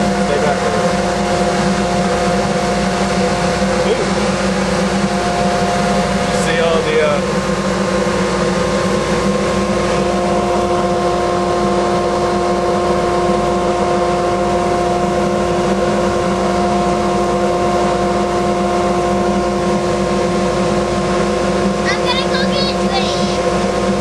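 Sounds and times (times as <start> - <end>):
dust collector running: 0.0 - 24.0.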